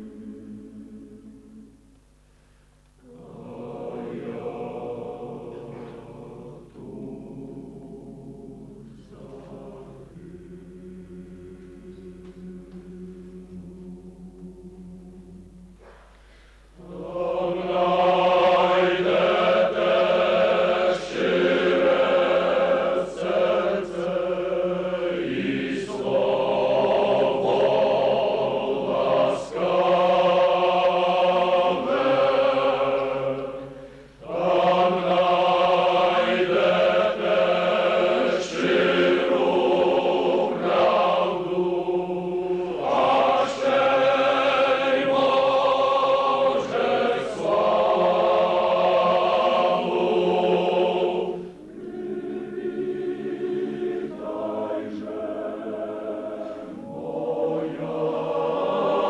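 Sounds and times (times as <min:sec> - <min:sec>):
choir singing sustained chords: 0:00.0 - 0:59.0.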